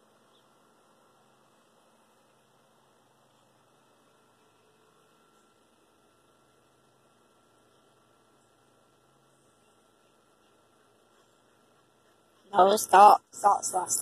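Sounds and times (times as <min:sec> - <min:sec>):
faint hum and hiss: 0:00.0 - 0:14.0.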